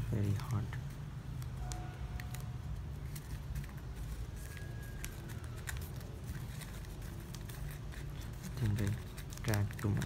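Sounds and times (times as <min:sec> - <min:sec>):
steady low hum: 0:00.0 - 0:09.8
ribbon clicks and rustles: 0:01.3 - 0:10.0.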